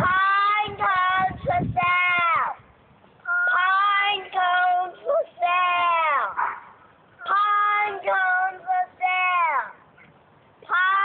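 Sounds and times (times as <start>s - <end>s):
girl chanting sing-song: 0.0s - 9.8s, 10.6s - 11.0s.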